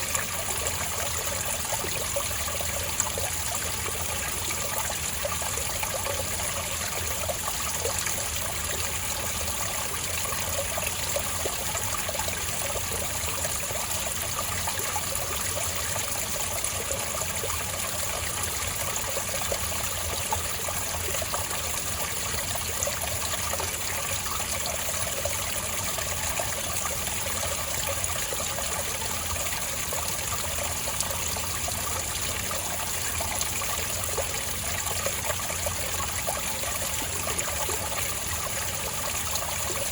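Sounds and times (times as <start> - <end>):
water trickling over stones: 0.0 - 39.9.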